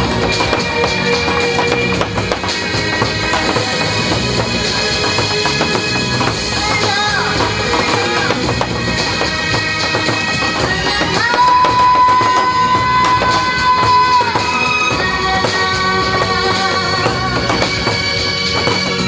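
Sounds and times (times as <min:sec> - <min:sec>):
drums beaten with sticks: 0:00.0 - 0:19.0
loud music with reedy melody: 0:00.0 - 0:19.0.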